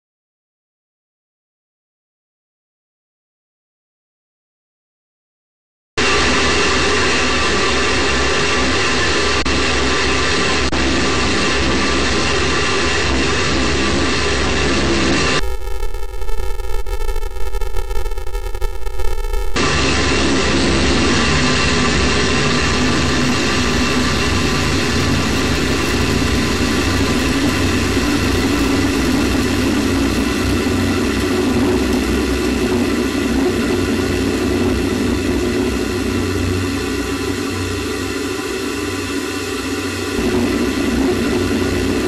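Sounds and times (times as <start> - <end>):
steady tones: 6.0 - 42.0.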